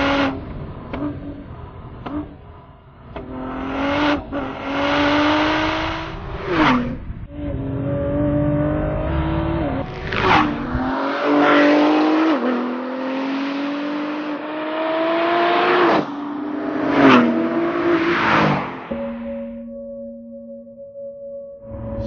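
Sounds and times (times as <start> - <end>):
car engine accelerating: 0.0 - 19.7.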